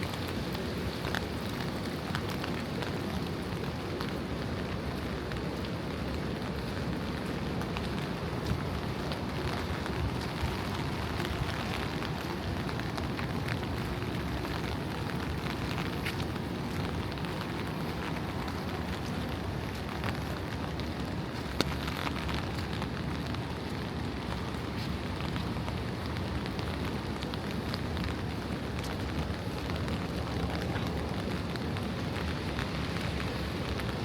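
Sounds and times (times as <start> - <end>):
rain on wet pavement: 0.0 - 34.0.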